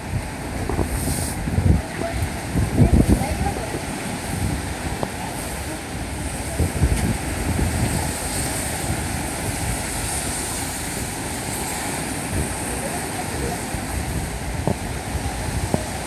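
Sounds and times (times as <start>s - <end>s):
light rain hissing: 0.0s - 16.0s
wind rumbling on microphone: 0.0s - 16.0s.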